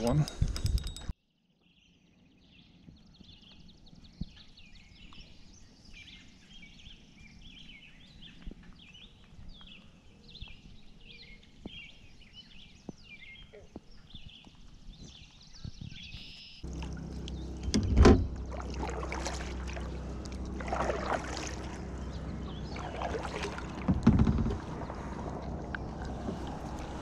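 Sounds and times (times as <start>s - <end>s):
birds chirping: 1.6s - 27.0s.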